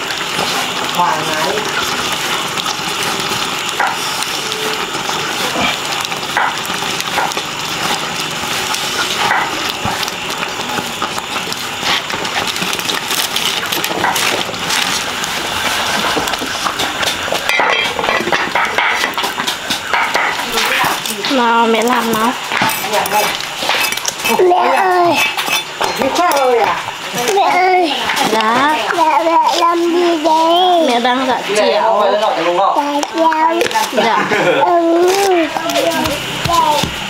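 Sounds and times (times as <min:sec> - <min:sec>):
chopsticks stirring in metal pot: 0:00.0 - 0:37.0
wood fire crackling: 0:00.0 - 0:37.0.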